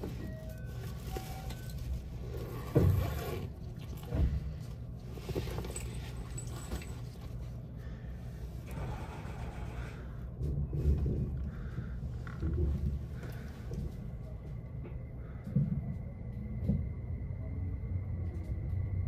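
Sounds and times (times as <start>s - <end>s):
train rumble from inside: 0.0s - 19.0s.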